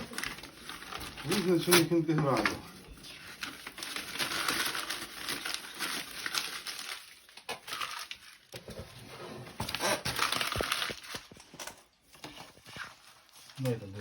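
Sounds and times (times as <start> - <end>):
paper crumpling and tearing: 0.0 - 14.0.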